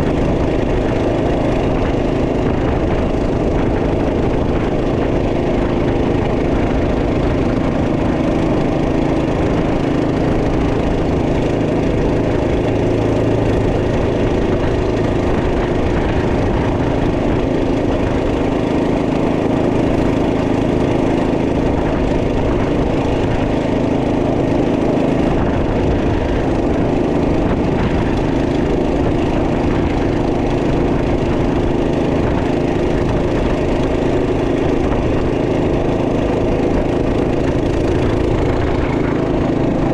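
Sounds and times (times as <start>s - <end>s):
minibike engine running steadily: 0.0s - 39.9s.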